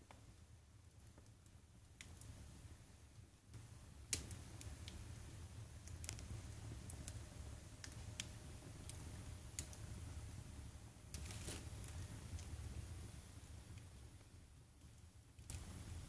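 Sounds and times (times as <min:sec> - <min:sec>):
fire popping: 0:00.0 - 0:16.0
firewood crackling: 0:00.0 - 0:16.0.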